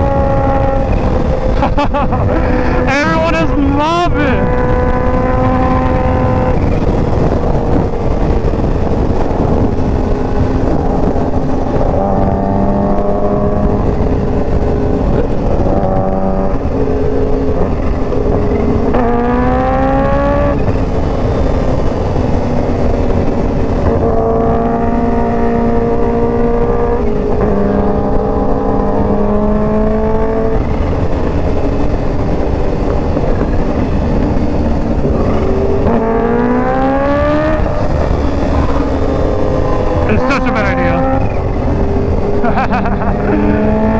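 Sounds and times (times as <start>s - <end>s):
motorcycle engine cruising: 0.0s - 43.9s
wind rush: 0.0s - 43.9s.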